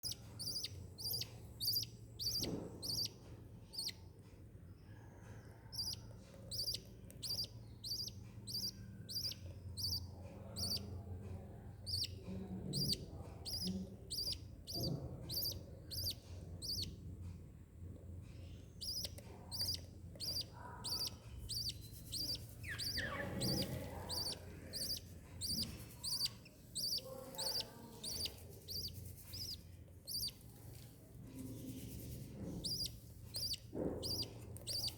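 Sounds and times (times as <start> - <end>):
lovebirds chirping: 0.0 - 4.0, 5.1 - 10.9, 11.8 - 16.9, 18.4 - 30.8, 31.4 - 34.9
steady low hum: 4.8 - 34.9.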